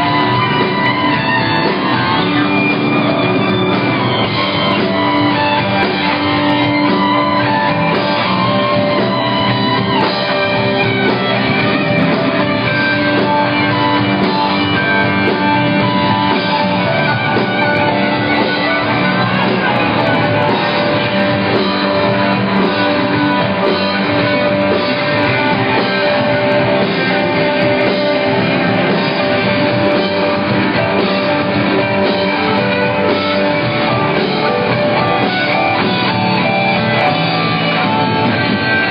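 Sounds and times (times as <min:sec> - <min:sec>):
live rock band: 0:00.0 - 0:38.9.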